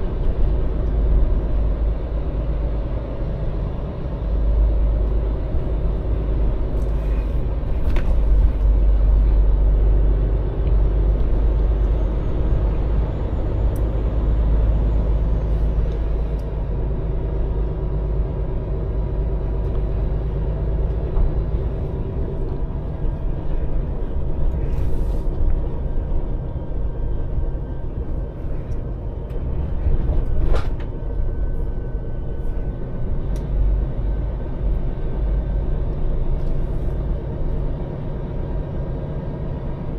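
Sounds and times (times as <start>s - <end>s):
lorry engine rumbling: 0.0s - 39.9s.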